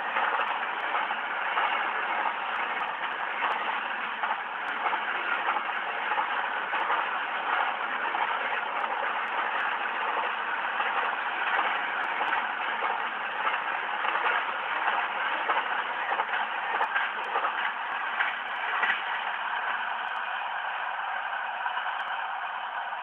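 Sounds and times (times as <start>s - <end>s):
steel train wheels rushing on rail: 0.0s - 23.0s.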